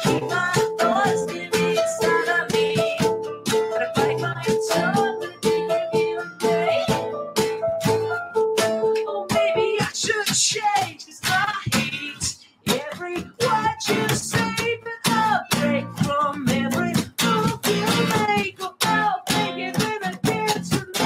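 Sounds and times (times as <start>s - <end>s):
person singing: 0.0s - 7.6s, 8.6s - 21.0s
strummed acoustic guitar: 0.0s - 21.0s.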